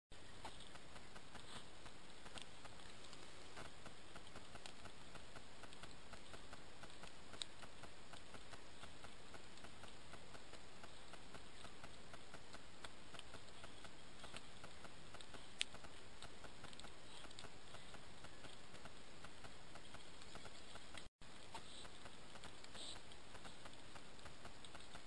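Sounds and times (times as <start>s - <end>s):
faint even ticking: 0.1s - 25.0s.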